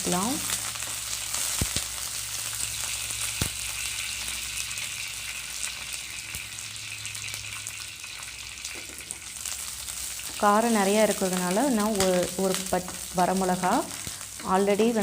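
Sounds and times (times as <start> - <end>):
shallots sizzling in hot oil: 0.0 - 15.0.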